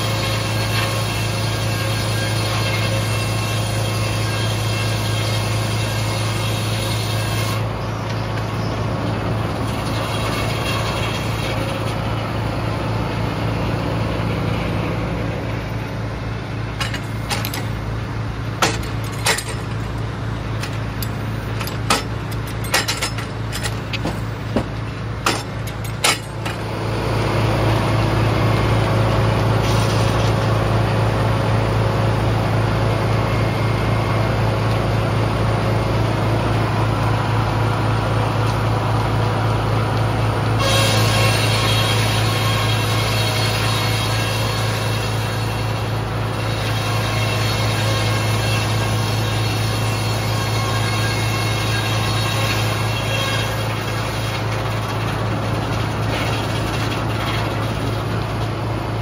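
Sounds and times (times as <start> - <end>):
sawmill droning: 0.0 - 59.0.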